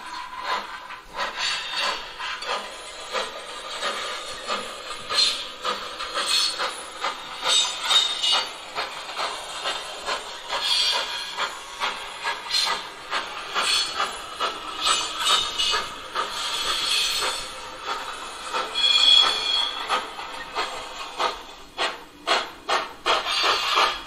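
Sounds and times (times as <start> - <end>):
steam hissing: 0.0 - 24.0
steam locomotive chuffing: 0.0 - 24.0.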